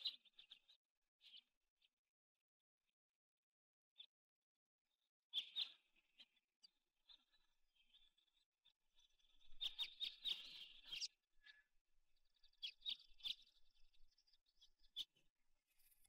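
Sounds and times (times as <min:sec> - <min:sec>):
faint bird chirping: 0:00.0 - 0:02.0, 0:04.9 - 0:16.0.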